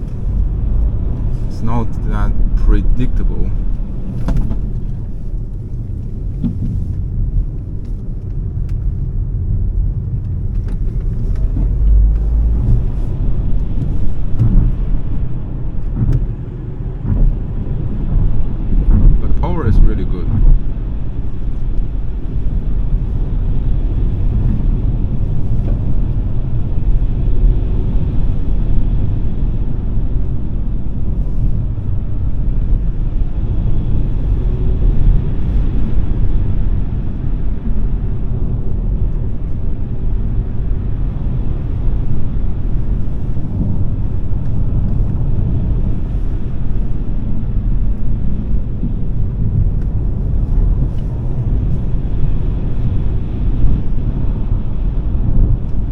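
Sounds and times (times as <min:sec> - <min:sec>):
road and tyre rumble: 0:00.0 - 0:55.9
wind noise: 0:00.0 - 0:55.9.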